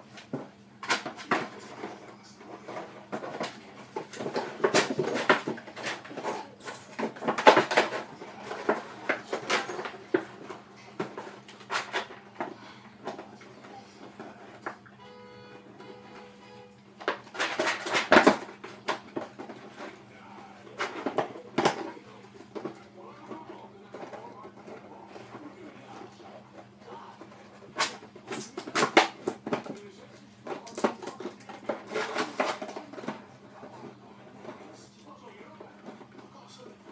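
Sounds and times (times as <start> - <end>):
plastic bottle crackling and knocking: 2.6 - 14.9, 17.0 - 34.7.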